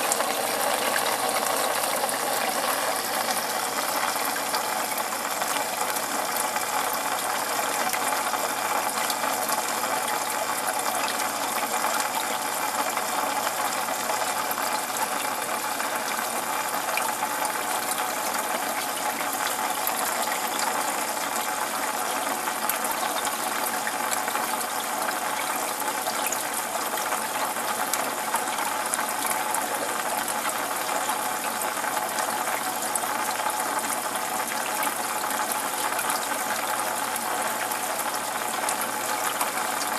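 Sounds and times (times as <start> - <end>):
aquarium filter trickling water: 0.0 - 39.9.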